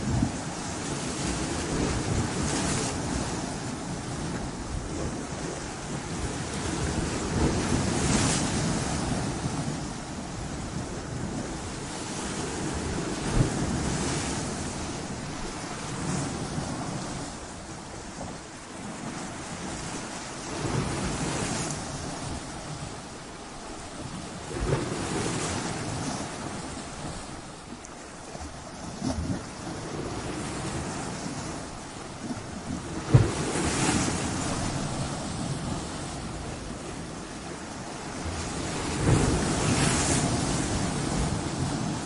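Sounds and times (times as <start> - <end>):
waves washing over rocks: 0.0 - 42.0.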